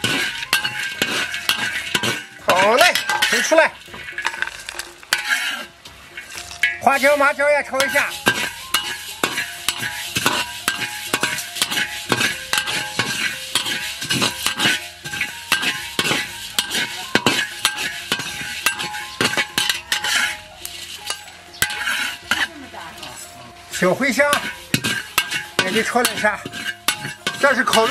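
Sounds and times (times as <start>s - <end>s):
metal spatula scraping wok: 0.0s - 27.9s.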